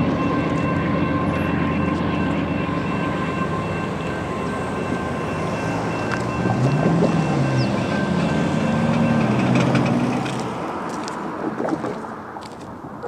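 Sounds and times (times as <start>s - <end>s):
train wheels rumbling on rail: 0.0s - 11.4s.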